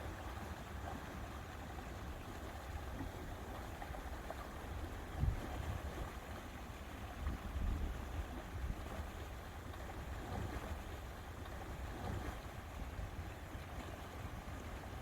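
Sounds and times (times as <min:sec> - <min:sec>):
lake water washing: 0:00.0 - 0:15.0.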